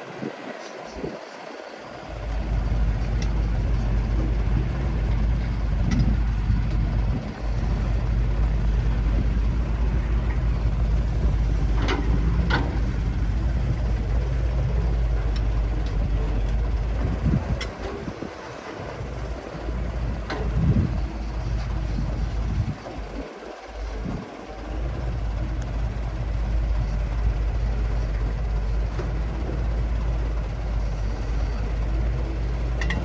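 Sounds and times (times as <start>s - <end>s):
diesel engine running under load: 0.0s - 33.0s.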